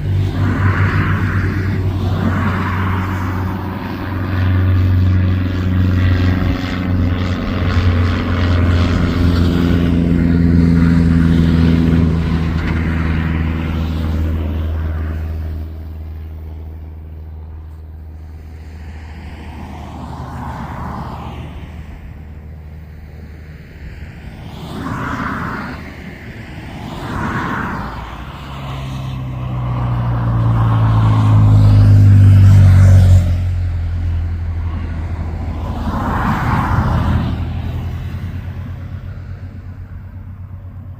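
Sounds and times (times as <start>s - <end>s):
aircraft engine drone: 0.0s - 40.9s.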